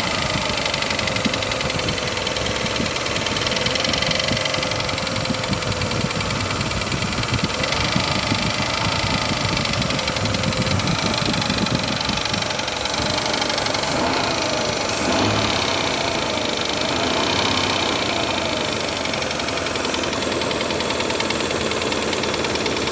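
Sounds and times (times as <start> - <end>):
engine running with knock: 0.0 - 22.9.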